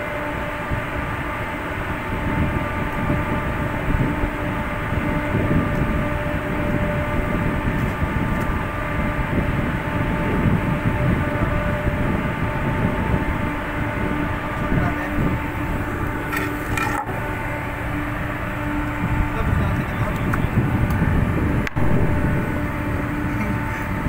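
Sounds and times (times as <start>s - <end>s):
ship machinery droning: 0.0s - 24.0s.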